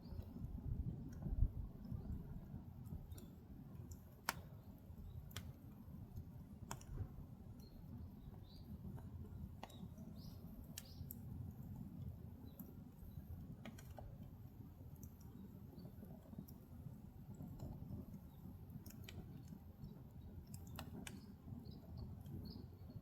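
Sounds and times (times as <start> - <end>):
firewood crackling and popping: 0.0 - 23.0
low rumble of fire: 0.0 - 23.0.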